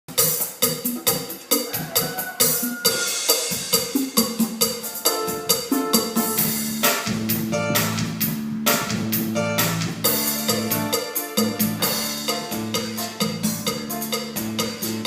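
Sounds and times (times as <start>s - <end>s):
keyboard playing cha-cha music: 0.1s - 15.0s.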